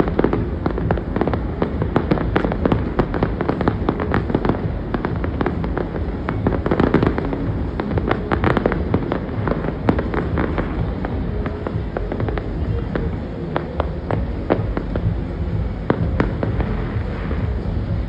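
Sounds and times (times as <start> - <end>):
fireworks bursting and crackling: 0.0 - 18.0
low rumble: 0.0 - 18.0.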